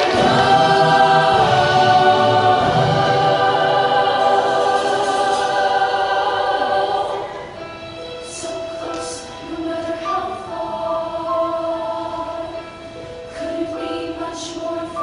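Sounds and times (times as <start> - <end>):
choir singing a held chord: 0.0 - 15.0.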